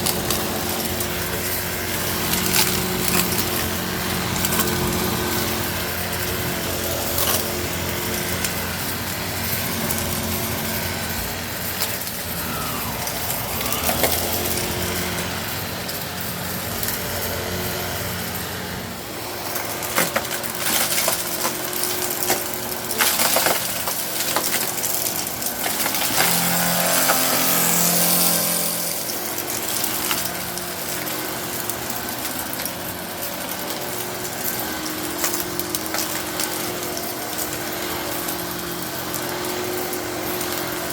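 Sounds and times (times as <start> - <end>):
gravel rattling through vacuum: 0.0 - 40.9
vacuum cleaner motor hum: 0.0 - 40.9.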